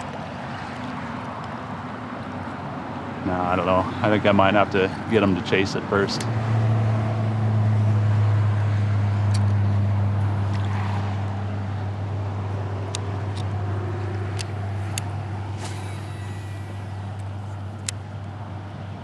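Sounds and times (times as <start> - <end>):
heavy vehicle drone: 0.0 - 19.0.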